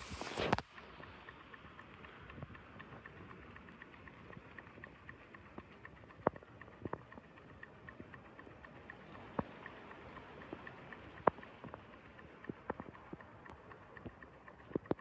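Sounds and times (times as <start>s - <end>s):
model steam engine ticking: 0.0s - 15.0s
sharp clicks: 0.0s - 15.0s.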